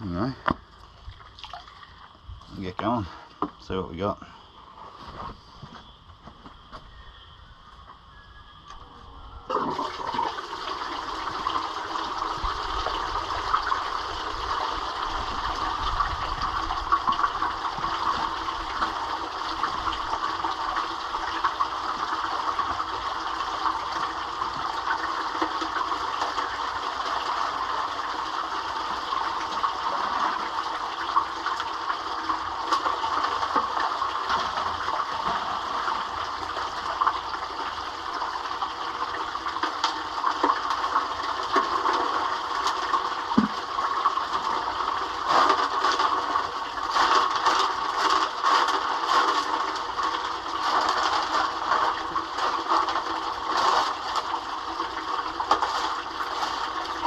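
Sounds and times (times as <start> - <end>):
water rushing: 9.5 - 57.0.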